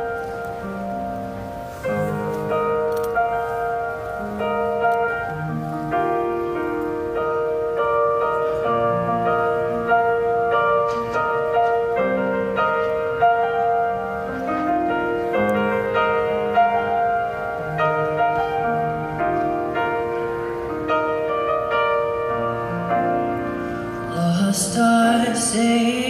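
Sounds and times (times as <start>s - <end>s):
keyboard playing sustained chords: 0.0s - 26.0s.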